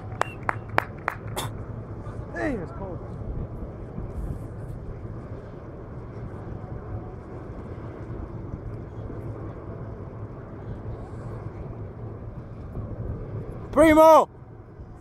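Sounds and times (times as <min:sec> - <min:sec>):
faint hum: 0:00.0 - 0:15.0
low outdoor rumble: 0:00.0 - 0:15.0.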